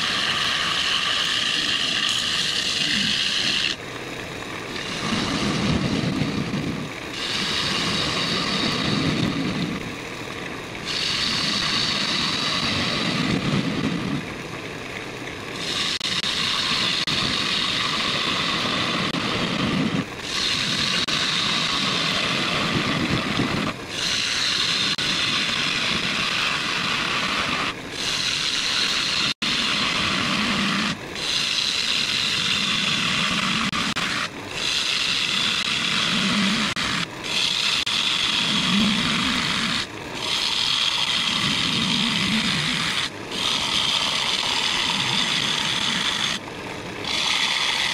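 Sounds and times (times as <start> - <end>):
gouge cutting wood on a lathe: 0.0 - 3.8, 7.1 - 9.4, 10.8 - 13.6, 15.6 - 47.9.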